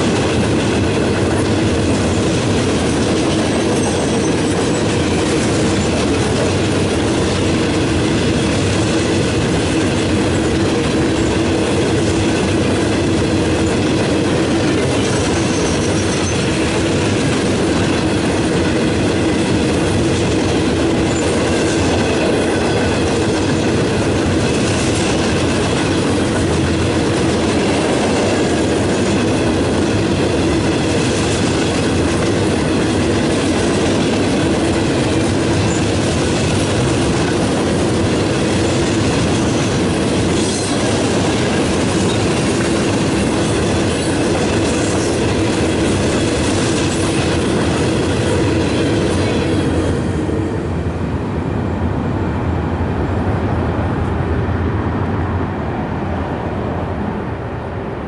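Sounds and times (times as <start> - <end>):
clacking over rail joints: 0.0 - 50.2
steel wheels rumbling on rails: 0.0 - 58.0.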